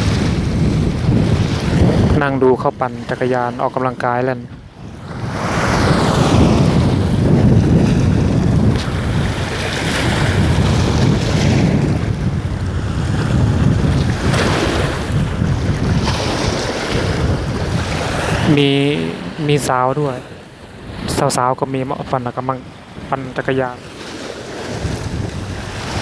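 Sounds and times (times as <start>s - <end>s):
sea waves: 0.0s - 26.0s
wind gusting on microphone: 0.0s - 26.0s.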